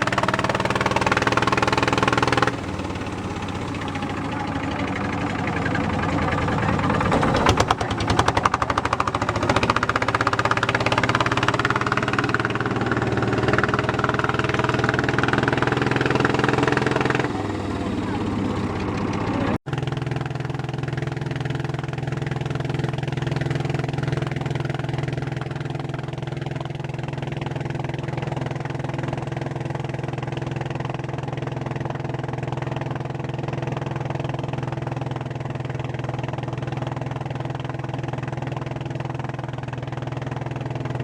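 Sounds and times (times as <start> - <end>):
boat engine running steadily: 0.0 - 41.0.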